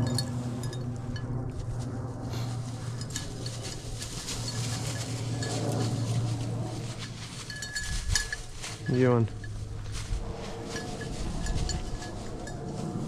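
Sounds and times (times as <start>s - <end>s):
metallic clinking and jingling: 0.0s - 1.4s, 2.4s - 13.0s
rustling through vegetation: 0.0s - 13.0s
steady low rumble: 0.0s - 13.0s.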